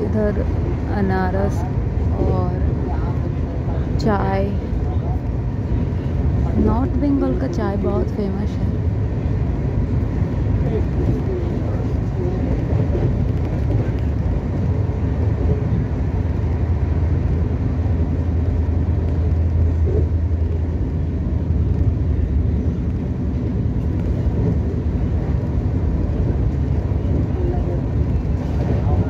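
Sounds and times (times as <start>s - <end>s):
train coach rumbling: 0.0s - 29.0s.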